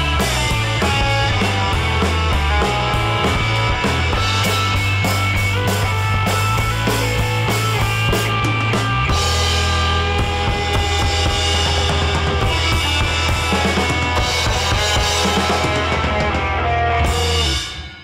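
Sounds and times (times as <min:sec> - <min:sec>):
rock background music: 0:00.0 - 0:18.0.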